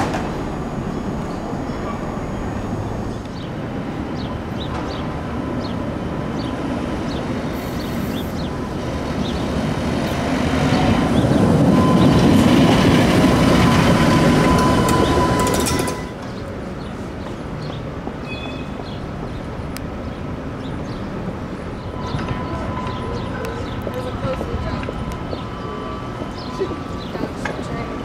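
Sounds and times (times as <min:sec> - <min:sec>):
streetcar wheels whining on rails: 0:00.0 - 0:28.0.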